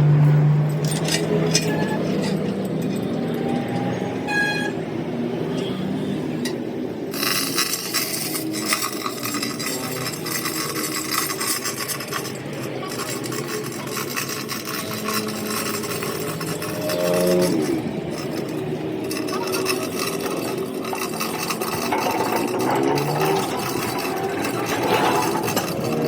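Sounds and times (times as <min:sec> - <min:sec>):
rasping metal scraping: 0:00.7 - 0:26.0.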